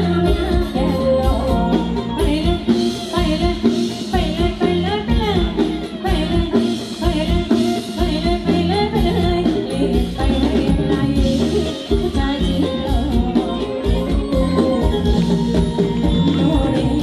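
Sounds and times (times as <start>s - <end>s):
live band music: 0.0s - 17.0s
person singing: 0.0s - 17.0s
steady drum beat: 0.0s - 17.0s.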